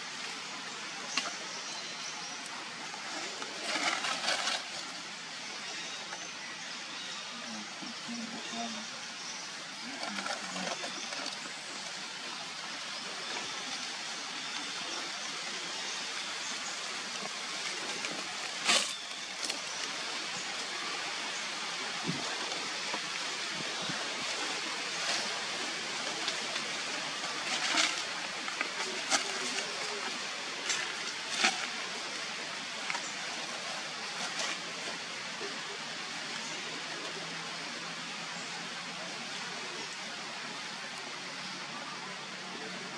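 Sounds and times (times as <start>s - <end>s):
steady outdoor background hiss: 0.0s - 42.9s.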